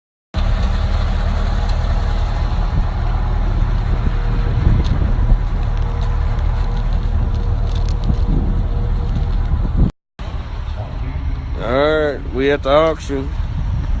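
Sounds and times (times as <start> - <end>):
vehicle engine humming: 0.4 - 14.0.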